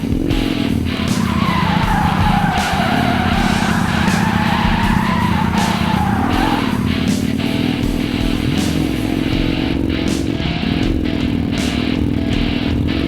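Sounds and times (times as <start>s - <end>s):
loud rock music: 0.0s - 13.0s
tyres screeching: 0.3s - 13.0s.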